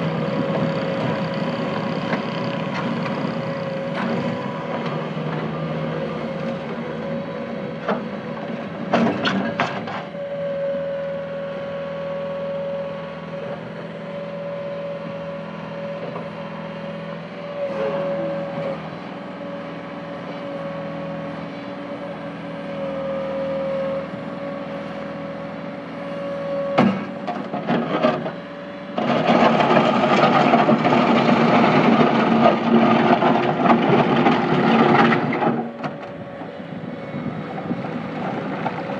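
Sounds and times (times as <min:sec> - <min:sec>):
diesel engine running with whine: 0:00.0 - 0:38.9.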